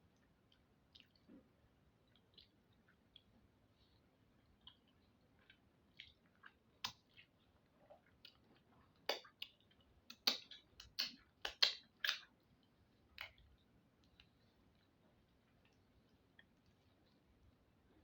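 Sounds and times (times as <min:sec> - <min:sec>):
person chewing with lip smacks: 0:00.2 - 0:17.3.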